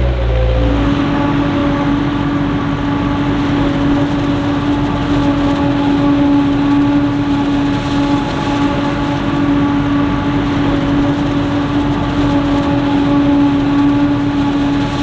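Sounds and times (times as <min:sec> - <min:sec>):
heavy engine drone with whine: 0:00.0 - 0:15.0.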